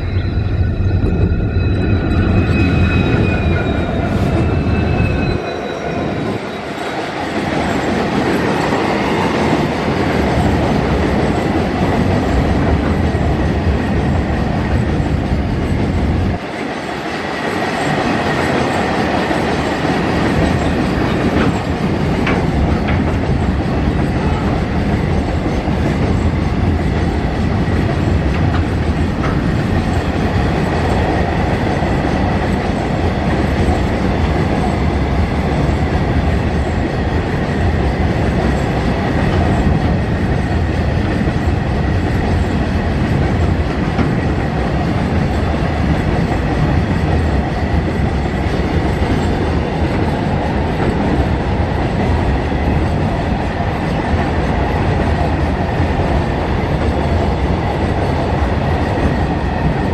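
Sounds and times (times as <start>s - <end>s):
diesel locomotive whine: 0.0s - 59.9s
freight wagons rumbling on rails: 0.0s - 59.9s.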